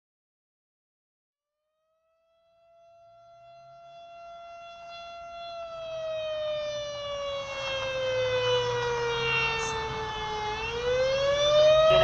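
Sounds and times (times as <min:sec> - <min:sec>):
warning siren wailing: 0:01.9 - 0:12.0.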